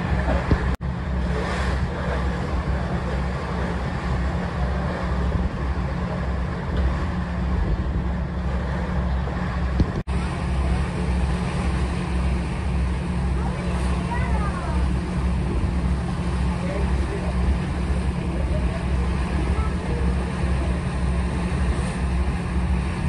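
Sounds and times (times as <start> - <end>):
boat engine droning: 0.0 - 23.0
water rushing: 0.0 - 23.0.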